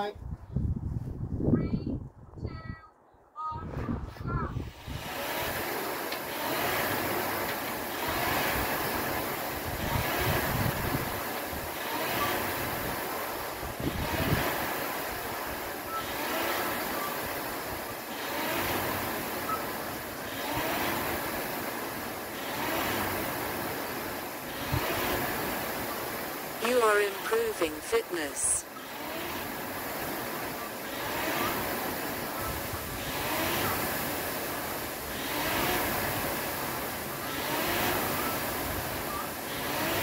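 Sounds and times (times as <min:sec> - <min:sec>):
rowing machine flywheel whirring: 0:04.6 - 0:27.3, 0:28.6 - 0:40.0.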